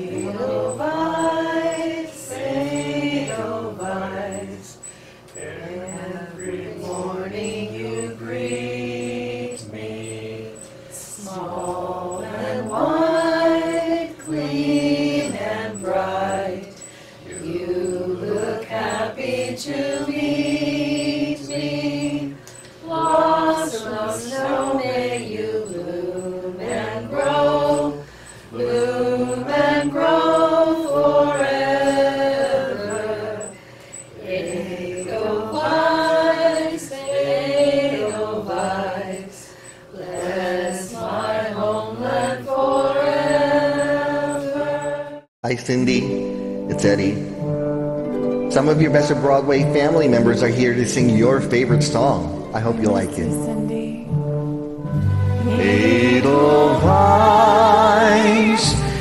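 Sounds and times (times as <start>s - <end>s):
group of voices singing: 0.0s - 45.3s, 48.9s - 59.0s.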